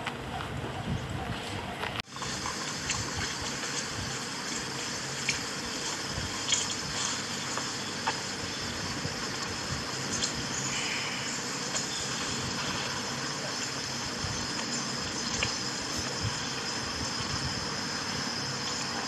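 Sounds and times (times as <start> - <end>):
steady rushing water-like noise: 2.0 - 19.0.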